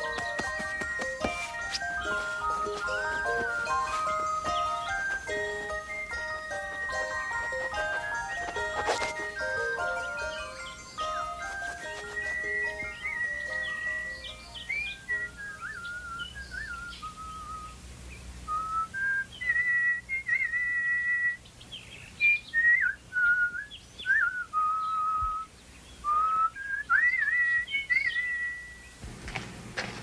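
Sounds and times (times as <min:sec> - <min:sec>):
person whistling bird-song melody: 0:00.0 - 0:07.8, 0:08.4 - 0:10.9, 0:11.6 - 0:17.8, 0:18.5 - 0:21.5, 0:22.2 - 0:29.0.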